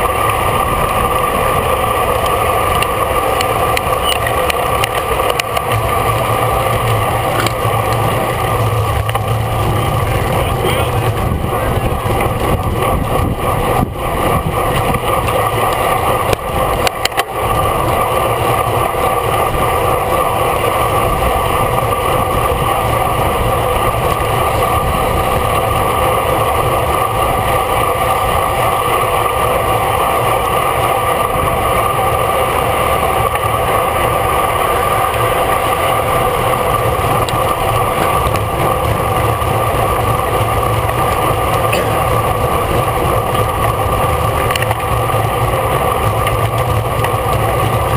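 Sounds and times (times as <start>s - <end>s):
bicycle road rush: 0.0s - 47.9s
wind rush: 0.0s - 47.9s.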